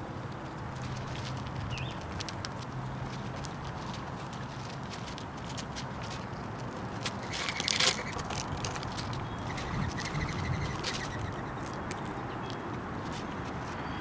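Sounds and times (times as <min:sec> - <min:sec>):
outdoor background noise: 0:00.0 - 0:14.0
squirrel cracking seeds clicks: 0:00.3 - 0:13.7.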